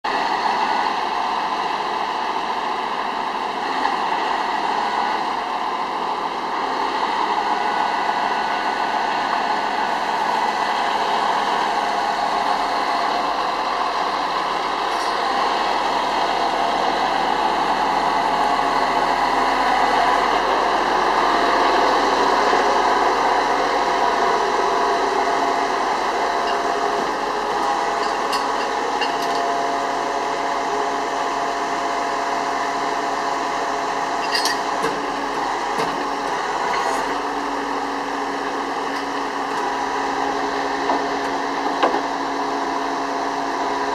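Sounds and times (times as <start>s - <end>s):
diesel engines idling: 0.1s - 43.9s.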